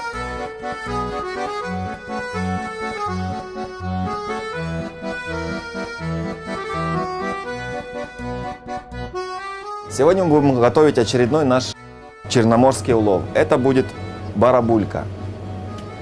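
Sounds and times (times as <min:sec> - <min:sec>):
accordion tune: 0:00.0 - 0:16.0.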